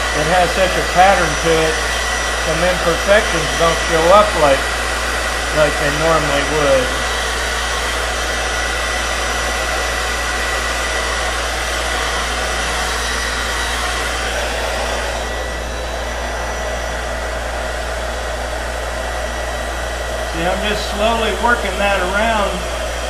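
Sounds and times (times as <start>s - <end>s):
heat gun blowing air: 0.0s - 23.0s.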